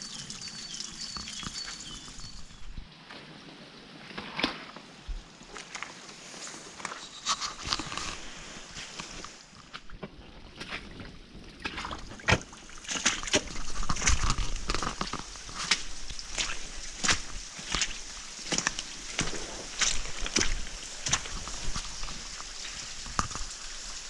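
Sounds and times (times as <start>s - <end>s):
footsteps squelching through mud: 4.2s - 23.8s.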